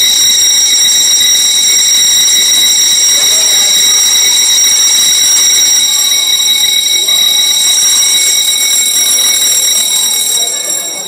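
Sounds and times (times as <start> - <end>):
fire alarm tone: 0.0 - 11.0.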